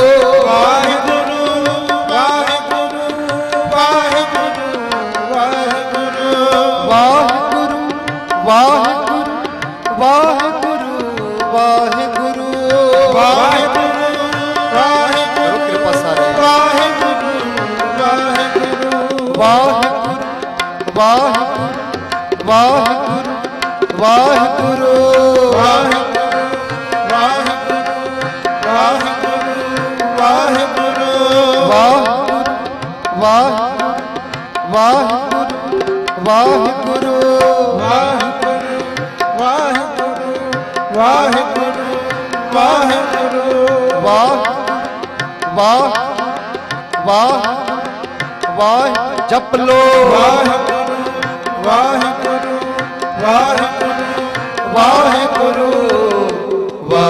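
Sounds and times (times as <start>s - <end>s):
person singing: 0.0s - 46.4s, 48.5s - 57.0s
harmonium chords and drone: 0.0s - 57.0s
tabla rhythm: 0.0s - 57.0s.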